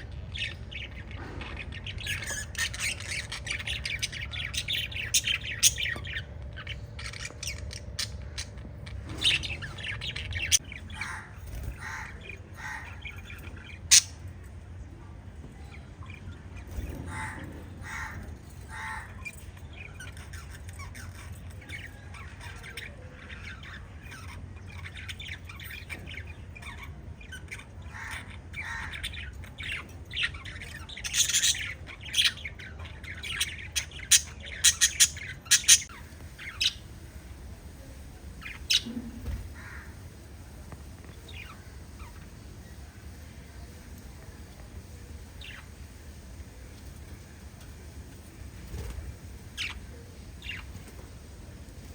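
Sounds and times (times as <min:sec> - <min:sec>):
budgies chirping and squawking: 0:00.0 - 0:14.3, 0:15.5 - 0:51.9.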